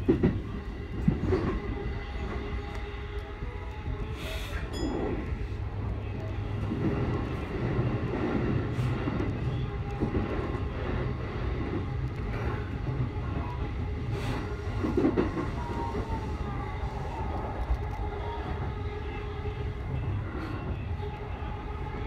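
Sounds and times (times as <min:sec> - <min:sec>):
faint train whine: 0:00.0 - 0:22.0
train wheels rumbling on rail: 0:00.0 - 0:22.0.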